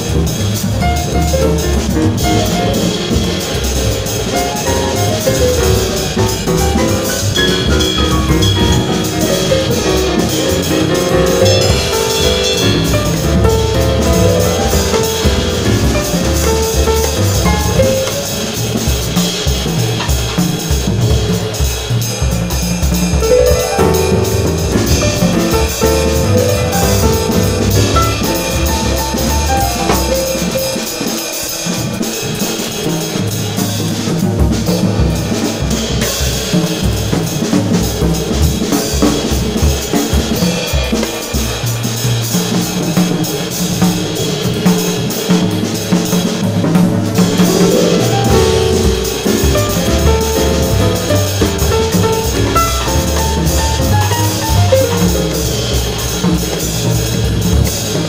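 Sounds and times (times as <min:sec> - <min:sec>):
drum kit with ride cymbal: 0:00.0 - 0:58.0
jazz piano and bass: 0:00.0 - 0:58.0.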